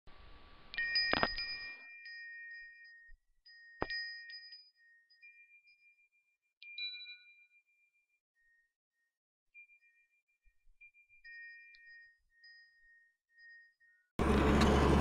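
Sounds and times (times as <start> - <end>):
bell-like chime notes: 0.8 - 14.7.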